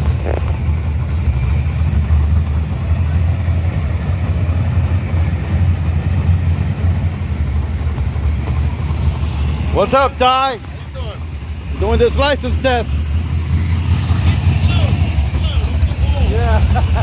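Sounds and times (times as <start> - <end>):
car engine deep rumble: 0.0 - 17.0.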